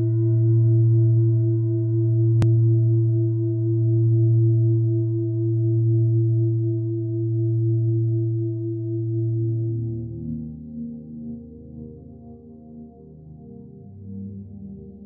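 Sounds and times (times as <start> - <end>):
soft ambient music: 0.0 - 15.0.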